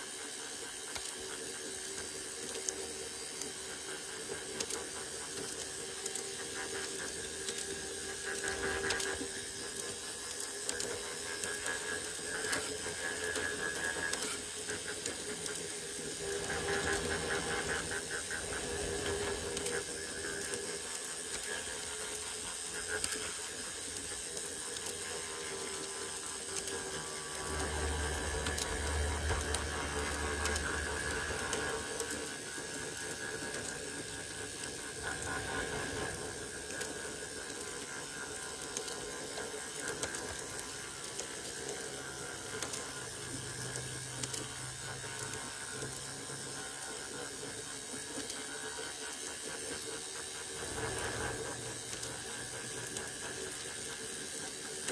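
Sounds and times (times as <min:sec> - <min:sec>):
model train whirring drive: 0:00.0 - 0:54.9
wheels clicking on rails: 0:00.0 - 0:54.9.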